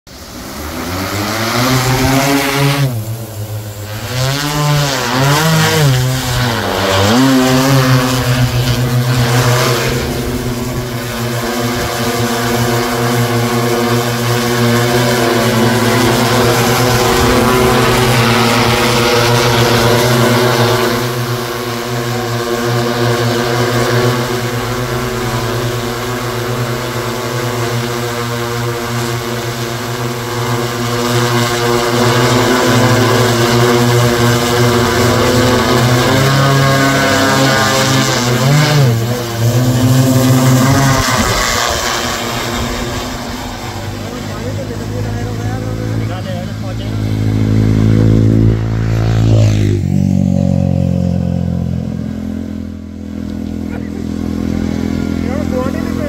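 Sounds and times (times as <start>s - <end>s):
drone propellers whirring: 0.1s - 56.0s.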